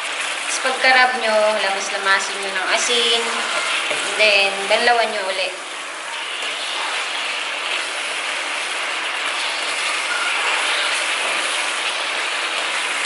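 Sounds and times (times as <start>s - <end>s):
squid sizzling in a frying pan: 0.0s - 13.0s.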